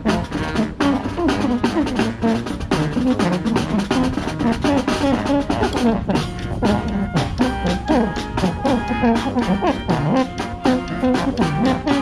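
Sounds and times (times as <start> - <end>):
brass band playing: 0.0 - 12.0
marching drum beat: 0.0 - 12.0.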